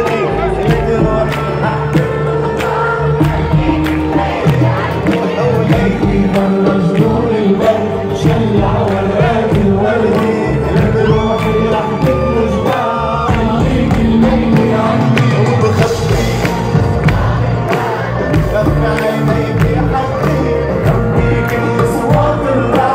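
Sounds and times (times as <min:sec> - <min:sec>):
live arabic pop music: 0:00.0 - 0:22.9
person singing: 0:00.0 - 0:22.9.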